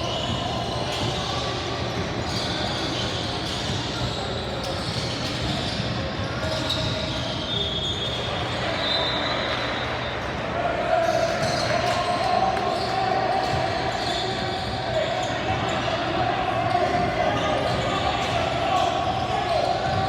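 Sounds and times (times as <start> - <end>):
background chatter: 0.0 - 20.0.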